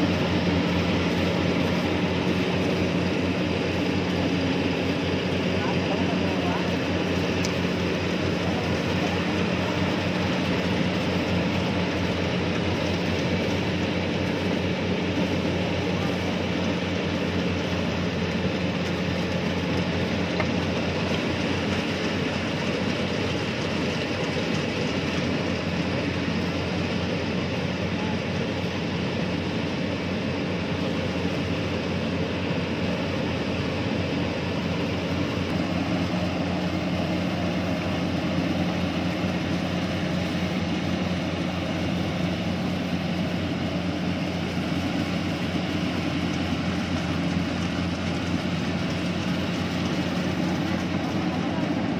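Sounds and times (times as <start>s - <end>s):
diesel engine drone: 0.0s - 51.9s.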